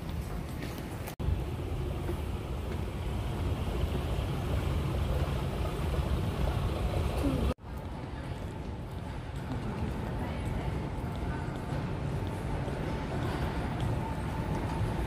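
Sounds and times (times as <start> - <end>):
low rumble of airport terminal: 0.0 - 15.0.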